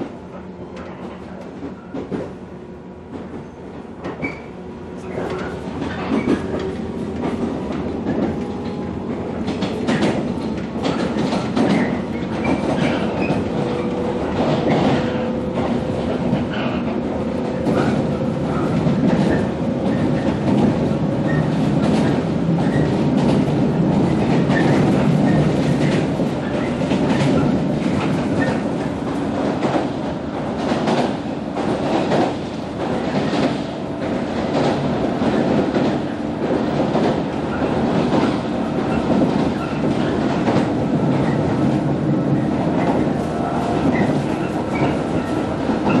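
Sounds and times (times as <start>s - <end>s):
train wheels rumbling: 0.0s - 46.0s.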